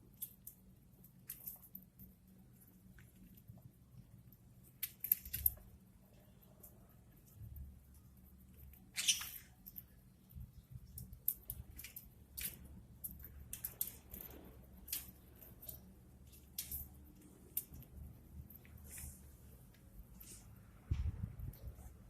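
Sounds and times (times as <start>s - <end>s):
beaks pecking and cracking food: 0.0s - 20.4s
low steady hum: 0.0s - 22.0s.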